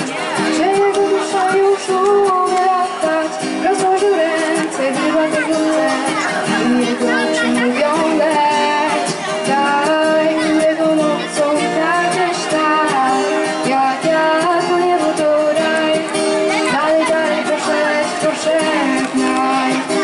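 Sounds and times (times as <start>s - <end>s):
acoustic guitar: 0.0s - 20.0s
girl singing into microphone: 0.0s - 20.0s.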